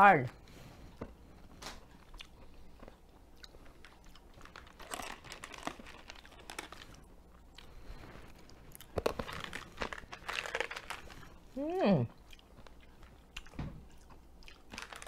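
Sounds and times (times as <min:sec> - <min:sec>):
crunching candy-coated peanuts: 0:01.9 - 0:15.0.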